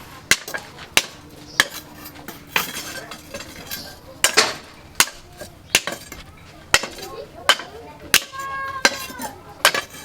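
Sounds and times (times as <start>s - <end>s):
hammer striking steel: 0.3s - 10.0s.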